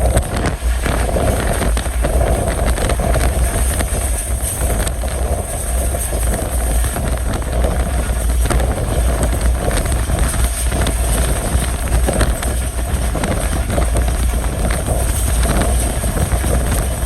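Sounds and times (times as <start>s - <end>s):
train wheels rumbling on rail: 0.0s - 17.0s
wind buffeting microphone: 0.0s - 17.0s.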